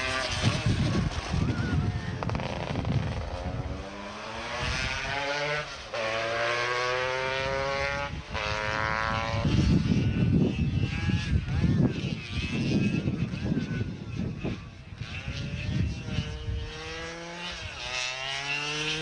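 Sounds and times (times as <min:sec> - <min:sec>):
racing engine accelerating: 0:00.0 - 0:13.8, 0:15.0 - 0:19.0
two-stroke scooter engine passing: 0:00.0 - 0:19.0.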